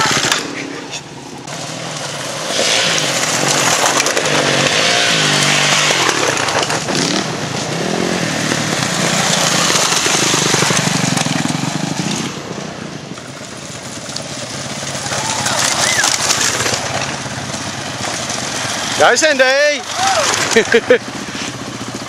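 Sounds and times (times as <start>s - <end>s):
dirt bike engines revving past: 0.0s - 22.0s.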